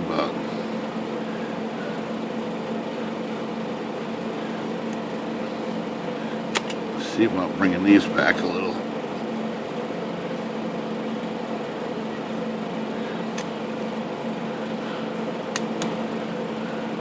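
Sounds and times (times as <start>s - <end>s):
fan machine humming: 0.0s - 17.0s.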